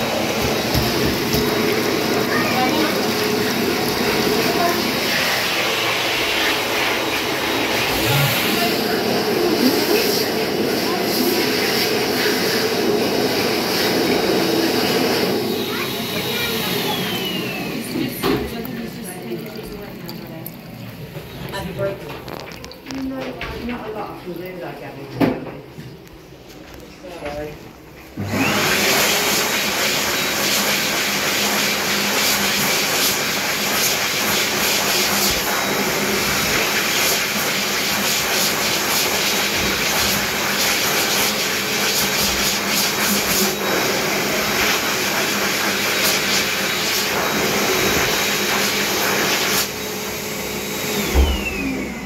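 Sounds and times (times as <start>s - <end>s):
electric hand dryer blowing: 0.0s - 22.4s, 28.2s - 52.0s.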